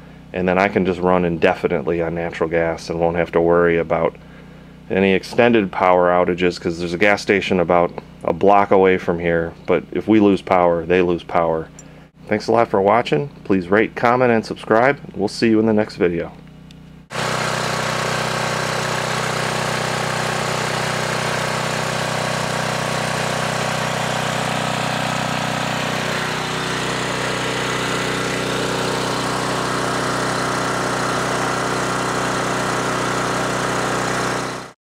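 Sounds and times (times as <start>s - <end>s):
generator engine running: 0.0s - 15.2s, 16.0s - 34.8s.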